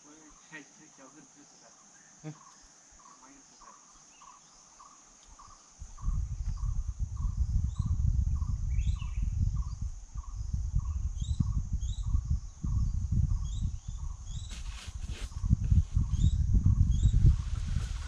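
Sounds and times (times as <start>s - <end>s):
high insect drone: 0.0s - 18.0s
insect call repeating: 0.0s - 18.0s.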